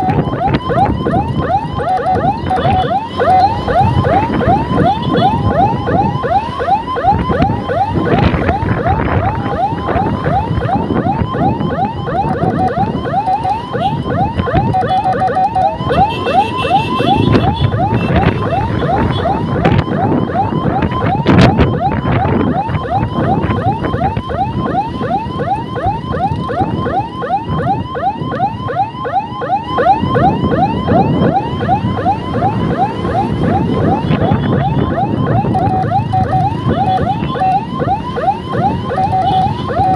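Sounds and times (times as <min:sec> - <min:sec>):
electronic siren yelping: 0:00.0 - 0:39.9
traffic noise: 0:00.0 - 0:39.9
wind: 0:00.0 - 0:39.9.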